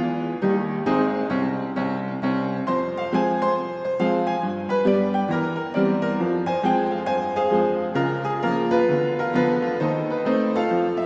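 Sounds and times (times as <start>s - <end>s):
calm piano melody: 0.0s - 11.0s.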